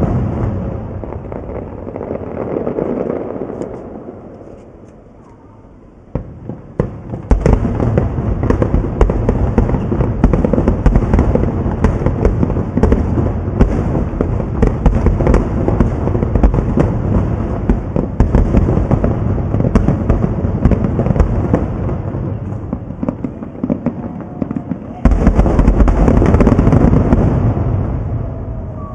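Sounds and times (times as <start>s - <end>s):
fireworks bursting: 0.0s - 28.9s.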